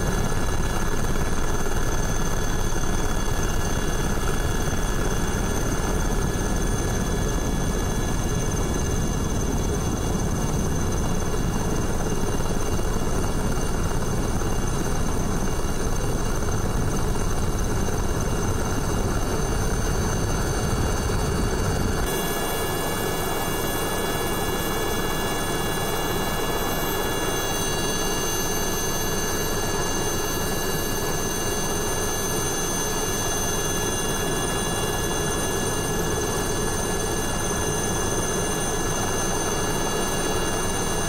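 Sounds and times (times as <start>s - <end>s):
helicopter rotor noise: 0.0s - 41.0s
high engine whine: 0.0s - 41.0s.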